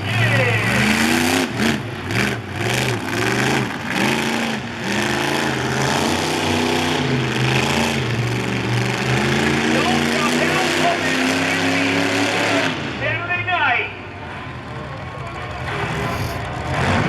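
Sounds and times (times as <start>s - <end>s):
monster truck engine revving: 0.0s - 13.0s, 14.4s - 17.0s.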